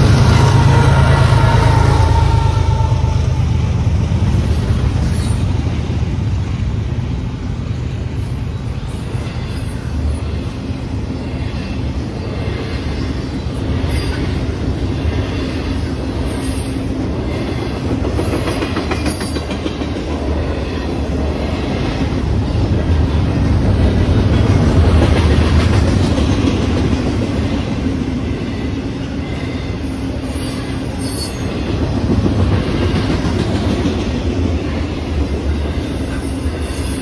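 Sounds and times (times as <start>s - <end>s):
freight train rolling past: 0.0s - 37.0s
rail clicks and clacks: 0.0s - 37.0s
wheels rumbling on rails: 0.0s - 37.0s.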